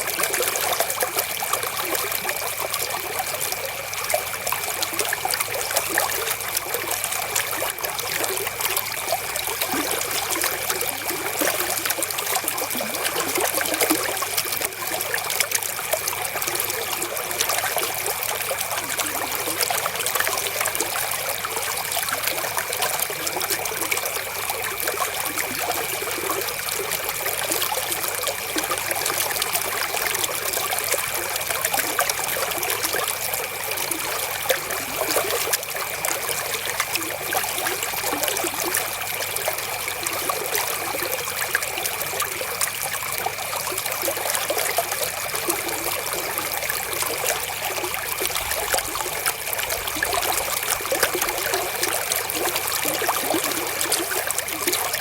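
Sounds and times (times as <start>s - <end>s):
river water trickling: 0.0s - 55.0s.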